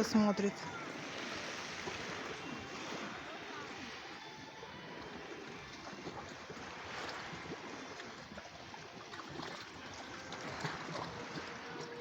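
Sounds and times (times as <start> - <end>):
small waves washing at shoreline: 0.0 - 12.0.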